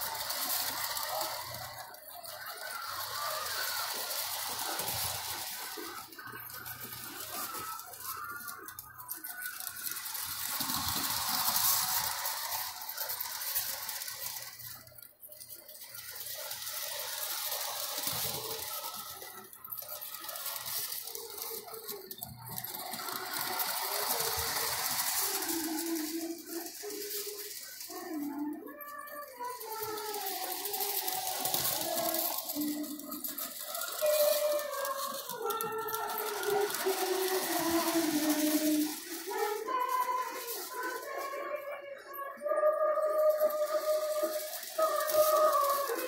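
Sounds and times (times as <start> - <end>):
model train whirring and rattling: 0.0 - 46.0.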